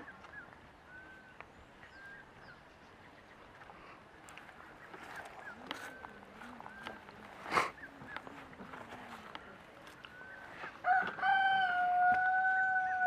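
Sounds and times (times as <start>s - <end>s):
birds chirping: 0.0s - 13.0s
faint outdoor ambience: 0.0s - 13.0s.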